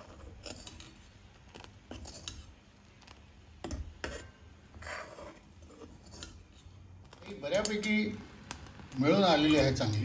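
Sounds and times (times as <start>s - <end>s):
ladle scraping and knocking pot: 0.0s - 10.0s.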